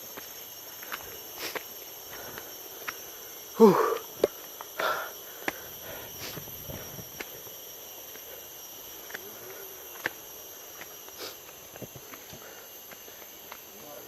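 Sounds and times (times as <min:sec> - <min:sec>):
footsteps on forest trail: 0:00.0 - 0:03.4, 0:04.0 - 0:14.0
insects droning: 0:00.0 - 0:14.0.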